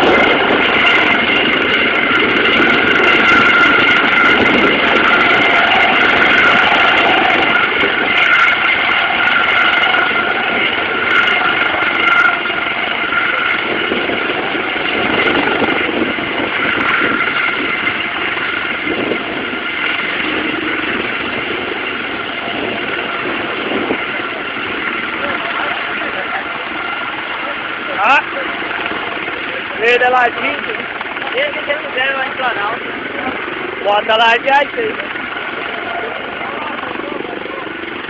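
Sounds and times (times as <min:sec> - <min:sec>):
helicopter running: 0:00.0 - 0:38.0.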